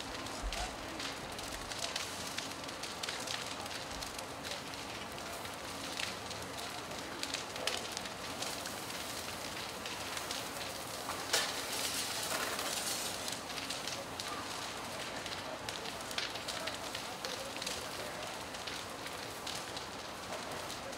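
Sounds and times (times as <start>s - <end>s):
fire crackles and pops: 0.0s - 20.9s
house fire burning with hiss: 0.0s - 20.9s
sharp crack of fire: 0.0s - 20.9s.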